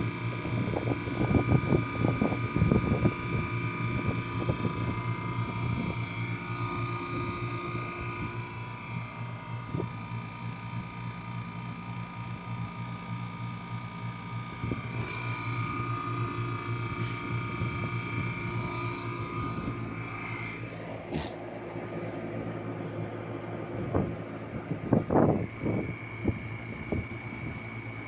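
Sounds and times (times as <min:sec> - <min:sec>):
compressor humming: 0:00.0 - 0:28.0.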